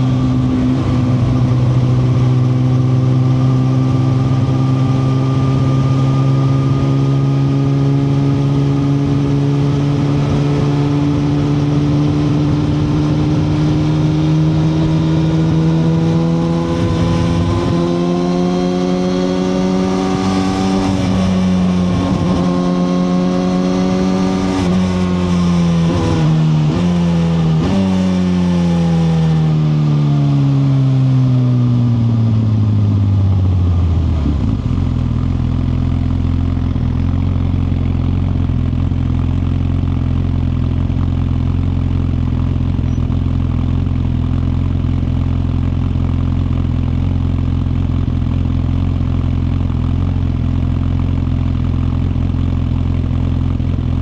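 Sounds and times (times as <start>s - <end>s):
motorcycle engine slowing and idling: 0.0s - 54.0s.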